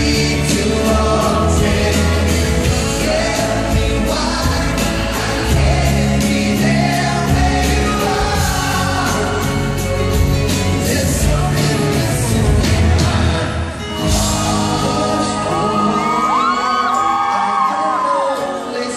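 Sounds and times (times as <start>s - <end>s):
acoustic guitar: 0.0s - 18.9s
men singing into microphones: 0.0s - 18.9s.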